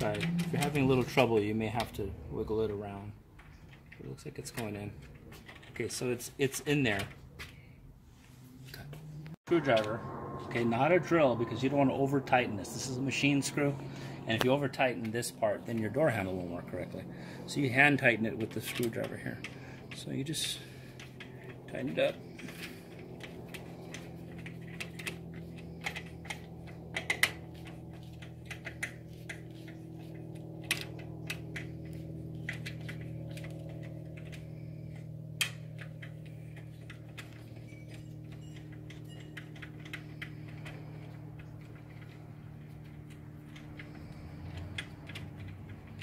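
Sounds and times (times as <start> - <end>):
low hum: 0.0 - 46.0.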